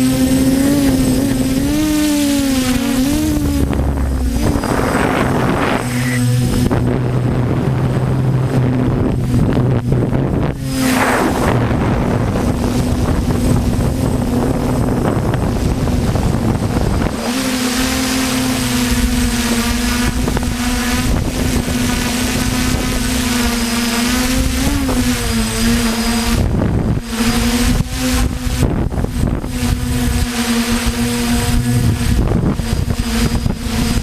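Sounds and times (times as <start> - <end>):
drone propellers humming: 0.0 - 34.0
wind buffeting microphone: 0.0 - 34.0.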